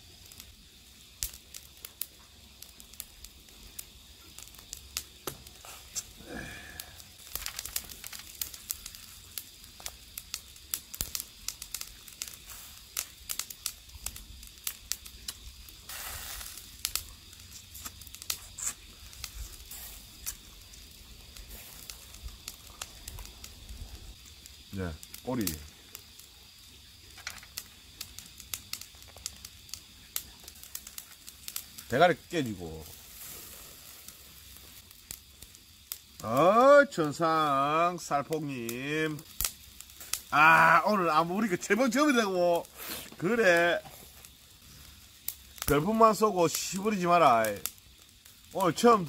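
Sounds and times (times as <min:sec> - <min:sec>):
fish sizzling on grill: 0:00.0 - 0:49.0.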